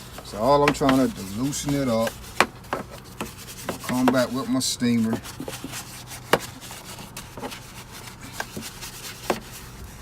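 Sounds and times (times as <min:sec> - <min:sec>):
scrub brush scrubbing mud: 0:00.0 - 0:10.0.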